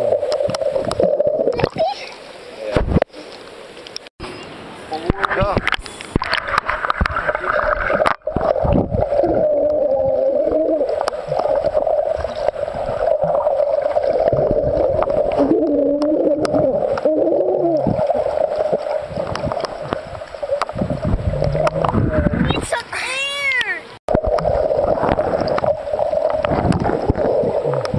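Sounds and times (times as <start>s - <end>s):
bubbling clicks and knocks: 0.0s - 1.9s, 5.1s - 22.6s, 24.1s - 27.9s.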